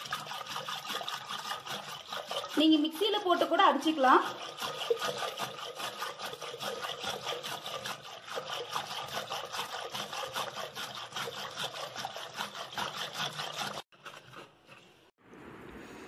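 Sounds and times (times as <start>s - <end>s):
whisk sloshing in a pot: 0.0s - 15.1s.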